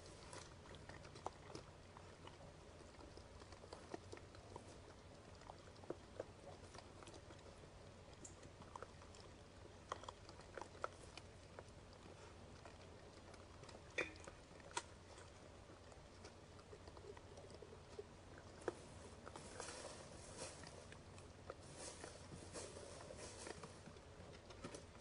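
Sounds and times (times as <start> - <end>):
low steady hum: 0.0 - 25.0
small animal chewing seed: 0.0 - 25.0.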